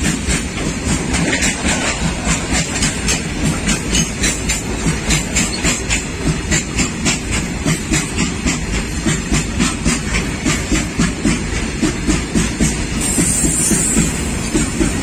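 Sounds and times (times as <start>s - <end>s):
train rumble: 0.0s - 15.0s
train wheels clacking on rail joints: 0.0s - 15.0s.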